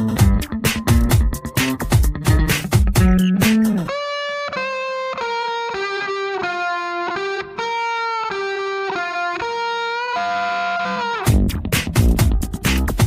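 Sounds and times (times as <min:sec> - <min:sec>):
electric guitar melody: 0:00.0 - 0:13.0.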